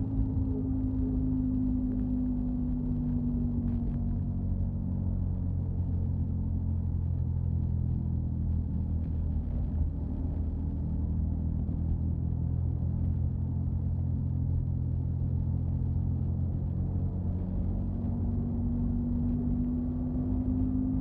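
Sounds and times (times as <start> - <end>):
car humming drone: 0.0 - 21.0.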